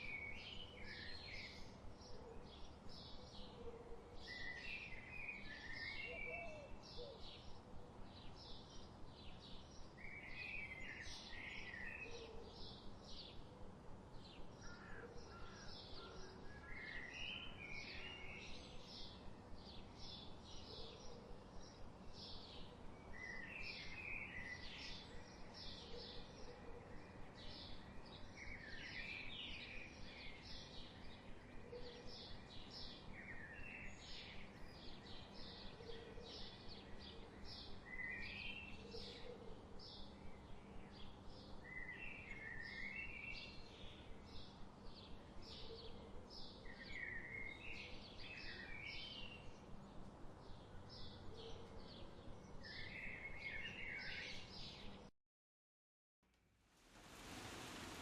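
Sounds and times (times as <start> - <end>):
faint background hiss: 0.0 - 55.1, 56.3 - 58.0
songbirds chirping: 0.0 - 55.1.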